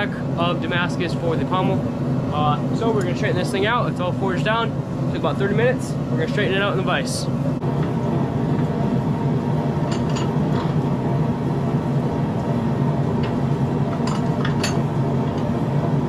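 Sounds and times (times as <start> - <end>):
loud mechanical drone: 0.0 - 16.0.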